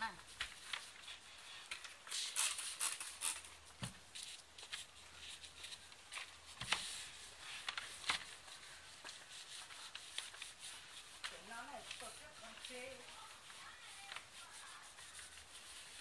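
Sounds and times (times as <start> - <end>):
cloth rustling: 0.0 - 16.0.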